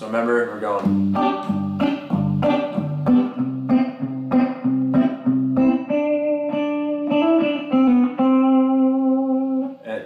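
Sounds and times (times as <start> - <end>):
electric guitar lick: 0.8 - 9.8.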